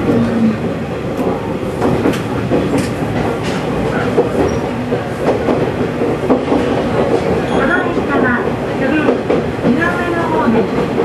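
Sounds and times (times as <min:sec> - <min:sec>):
railcar rumble: 0:00.0 - 0:11.0.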